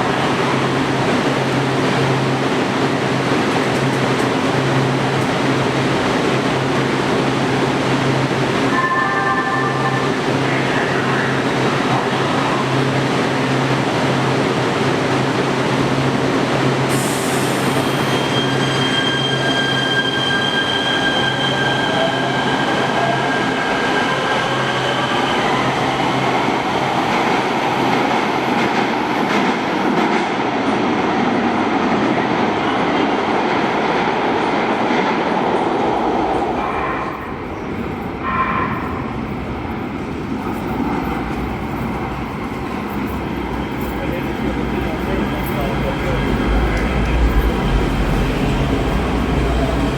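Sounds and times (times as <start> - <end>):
train wheel and rail noise: 0.0 - 49.9.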